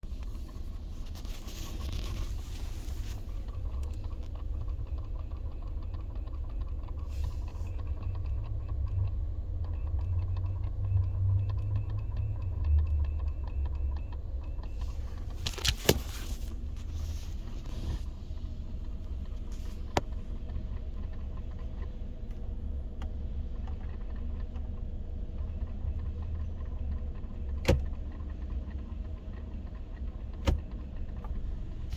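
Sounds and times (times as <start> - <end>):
car low rumble: 0.0 - 31.9.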